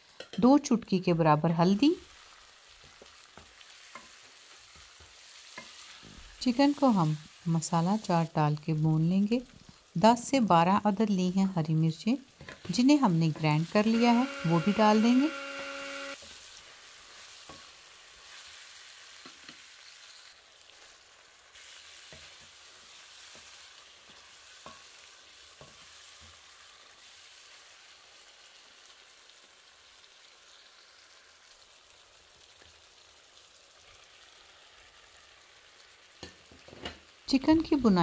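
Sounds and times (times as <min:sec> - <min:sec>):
food sizzling in oil: 0:00.0 - 0:38.0.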